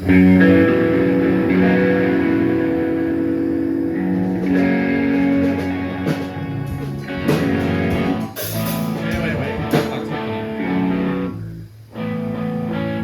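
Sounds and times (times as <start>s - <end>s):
electric guitar chords ringing: 0.0s - 13.0s
picked guitar notes: 0.0s - 13.0s.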